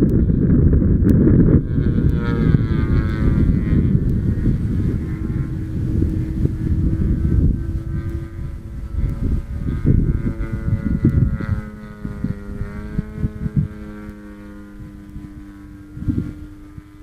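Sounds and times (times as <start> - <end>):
model airplane engine buzzing: 0.0 - 17.0
wind rumble on microphone: 0.0 - 17.0.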